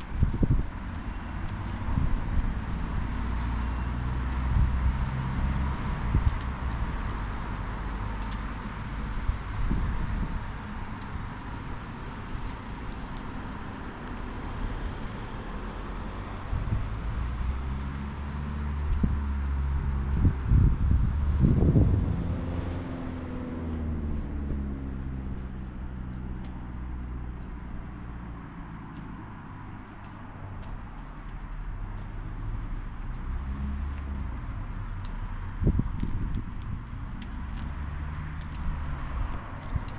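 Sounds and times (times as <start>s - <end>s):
road and wind hiss: 0.0s - 39.9s.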